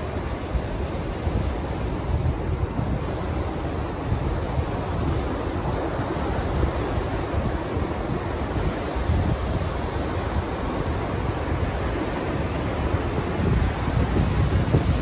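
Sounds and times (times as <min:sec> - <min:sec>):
ocean surf washing in: 0:00.0 - 0:15.0
wind buffeting microphone: 0:00.0 - 0:15.0.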